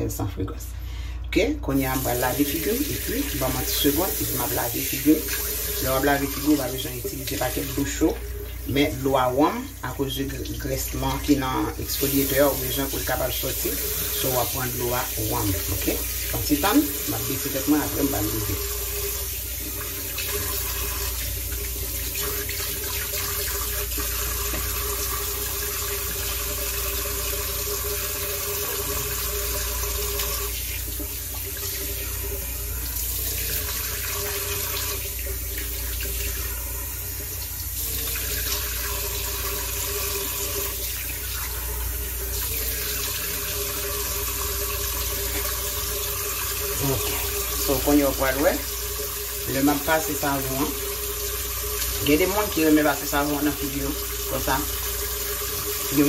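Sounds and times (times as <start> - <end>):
tap water running into sink: 1.7 - 56.0.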